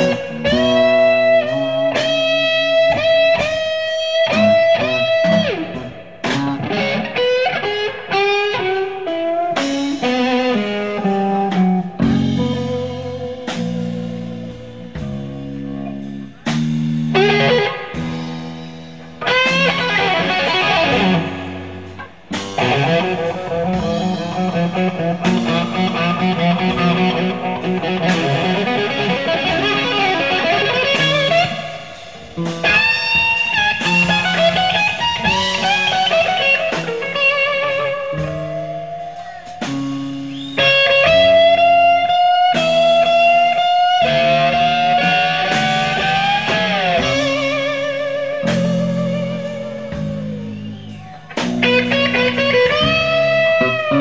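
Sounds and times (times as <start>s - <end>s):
drums: 0.0s - 54.0s
electric bass: 0.0s - 54.0s
electric guitar lead lines: 0.0s - 54.0s.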